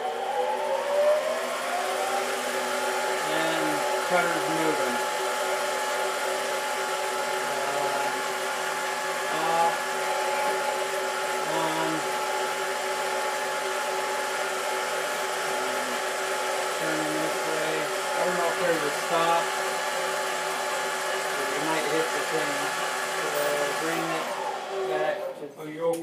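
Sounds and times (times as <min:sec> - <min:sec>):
lathe motor and gear hum: 0:00.0 - 0:25.2.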